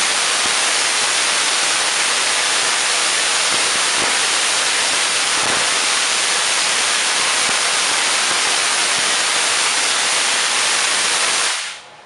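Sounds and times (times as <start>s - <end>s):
tesla coil sparks hissing: 0.0s - 11.8s.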